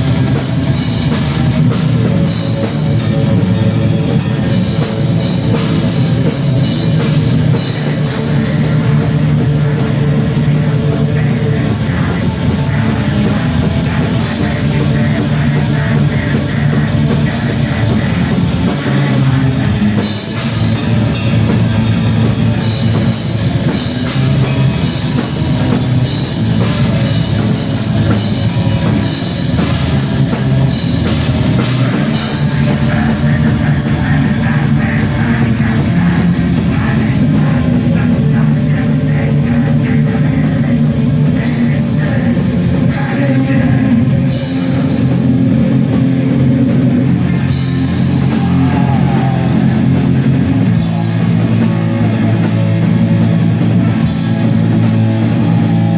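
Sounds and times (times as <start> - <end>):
distorted electric guitars: 0.0 - 55.9
drum kit: 0.0 - 55.9.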